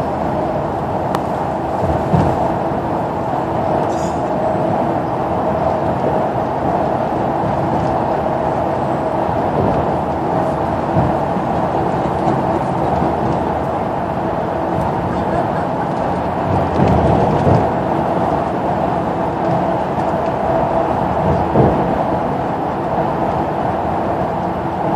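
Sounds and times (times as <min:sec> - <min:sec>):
coach engine and road noise: 0:00.0 - 0:24.9
constant hum: 0:00.0 - 0:24.9.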